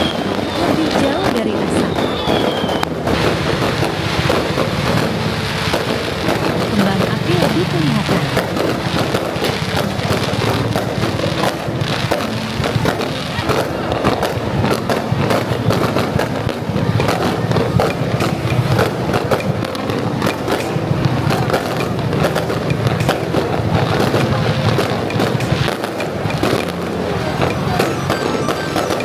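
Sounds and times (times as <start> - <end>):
fireworks crackling pops: 0.0 - 29.0.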